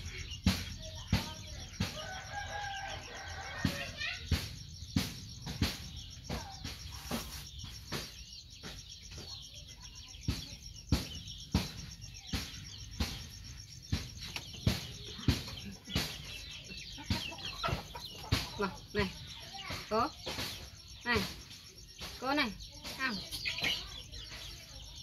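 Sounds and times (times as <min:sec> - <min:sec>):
birds chirping: 0:00.0 - 0:25.0
sharp taps and knocks: 0:03.6 - 0:24.6.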